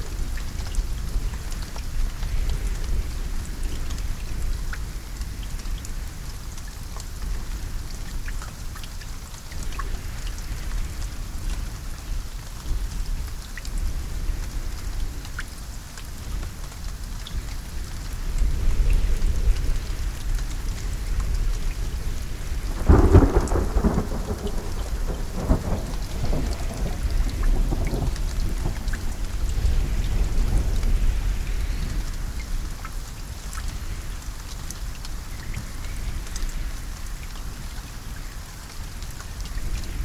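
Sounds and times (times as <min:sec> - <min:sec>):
rain falling: 0:00.0 - 0:40.0
raindrops ticking on a surface: 0:00.0 - 0:40.0.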